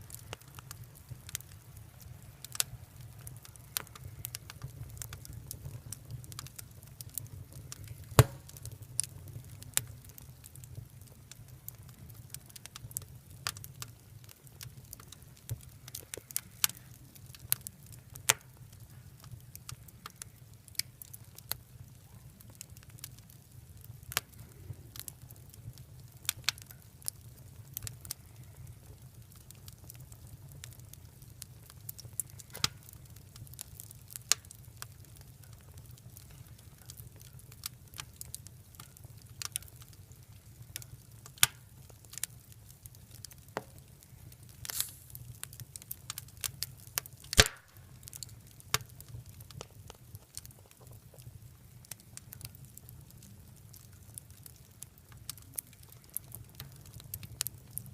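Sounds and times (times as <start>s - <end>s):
wood fire crackling and popping: 0.0s - 57.9s.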